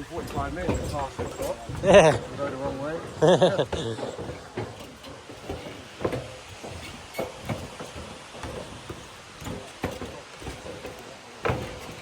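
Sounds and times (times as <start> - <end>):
footsteps on wooden stairs: 0.0 - 12.0.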